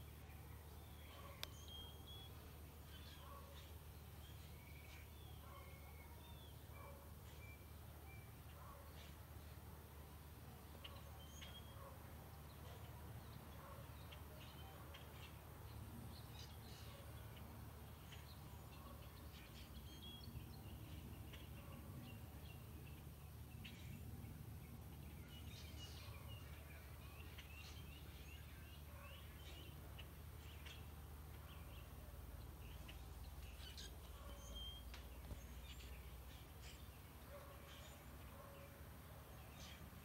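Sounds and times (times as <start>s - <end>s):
small birds chirping: 0.0s - 9.6s, 12.5s - 40.0s.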